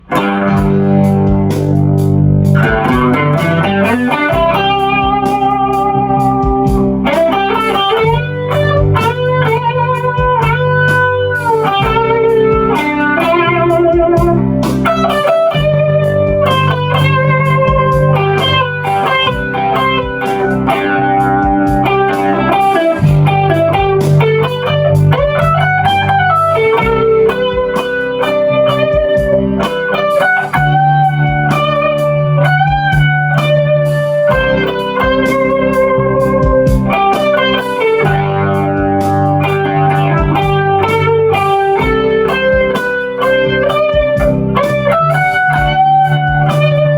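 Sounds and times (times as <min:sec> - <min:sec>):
electric guitar with delay: 0:00.0 - 0:46.9.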